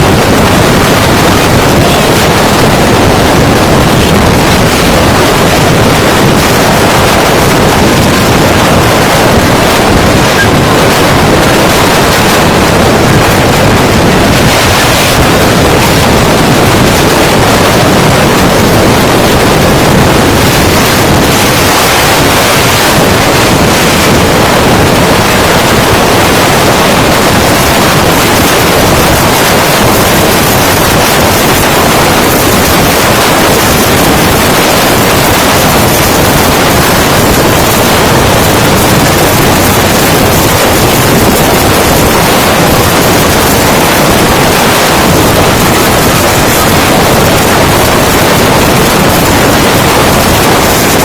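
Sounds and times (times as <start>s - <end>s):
strong wind on microphone: 0.0s - 51.0s.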